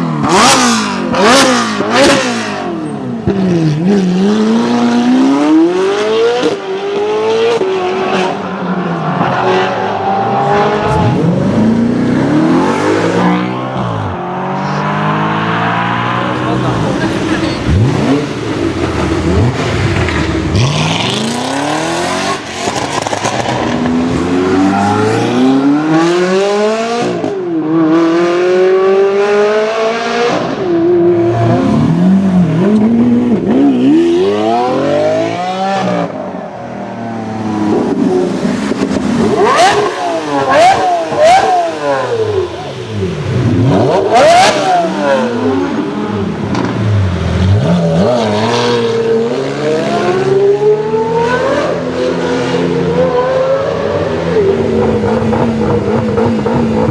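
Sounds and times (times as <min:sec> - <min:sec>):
car engine revving and accelerating: 0:00.0 - 0:56.9.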